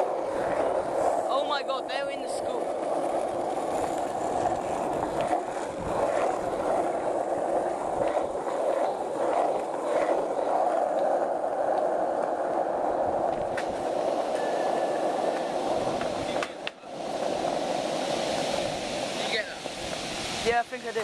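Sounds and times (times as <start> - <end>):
skateboard wheels rolling on pavement: 0.0 - 21.0.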